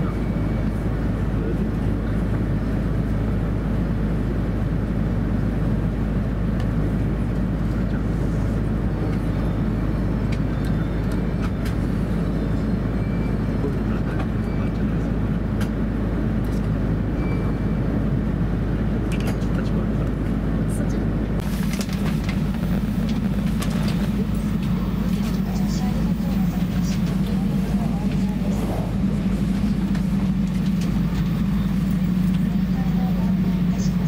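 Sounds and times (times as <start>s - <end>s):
train rumble and hum: 0.0s - 34.0s.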